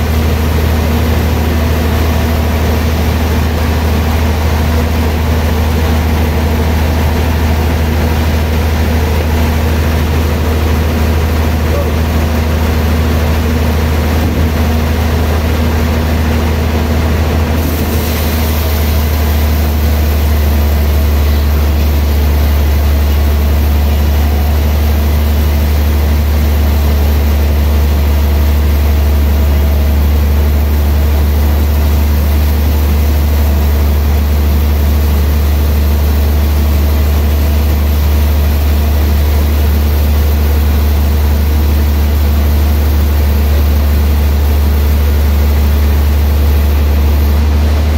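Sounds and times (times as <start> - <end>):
band saw humming: 0.0 - 47.9.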